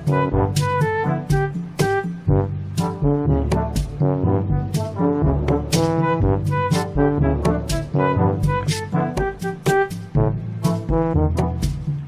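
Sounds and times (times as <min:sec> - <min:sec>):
brass melody: 0:00.0 - 0:12.0
drum beat: 0:00.0 - 0:12.0.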